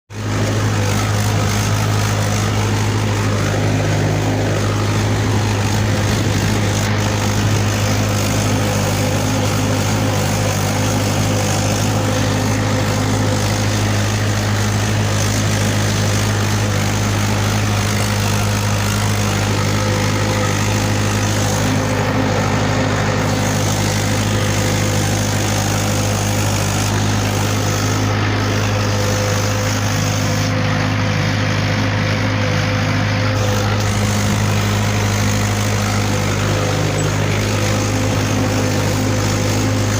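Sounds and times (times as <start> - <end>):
tractor diesel engine running: 0.0 - 39.9
unusual engine noise: 0.0 - 39.9.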